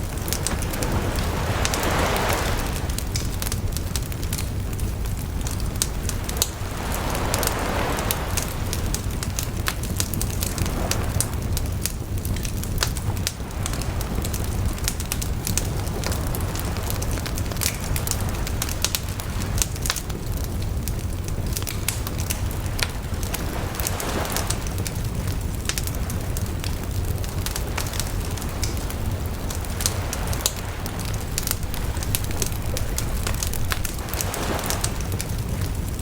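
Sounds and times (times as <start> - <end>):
bonfire crackling and popping: 0.0 - 36.0.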